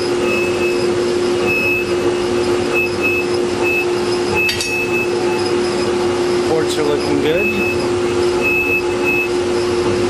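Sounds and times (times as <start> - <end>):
shop machinery humming: 0.0 - 10.0.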